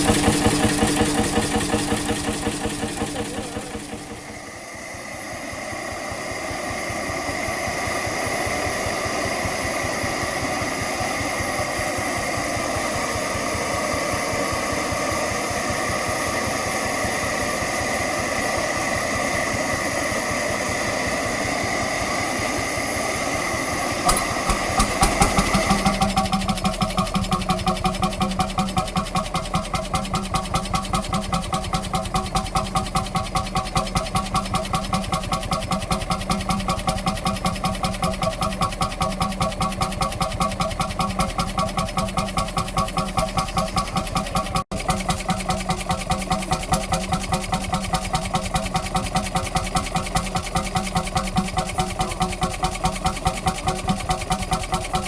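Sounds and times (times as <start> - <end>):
engine humming steadily: 0.0 - 55.0
pulsing engine beat: 0.0 - 55.0.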